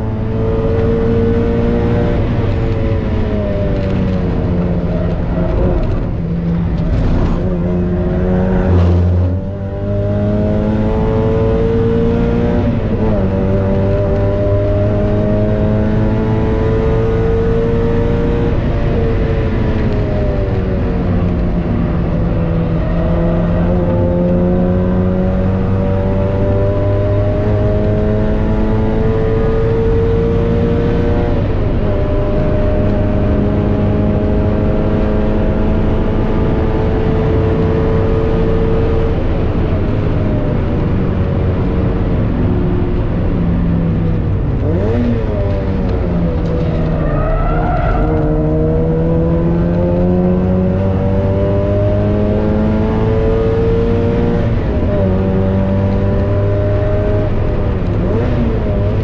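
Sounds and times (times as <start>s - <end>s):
car engine revving high: 0.0s - 21.4s, 22.0s - 42.4s, 44.2s - 59.0s.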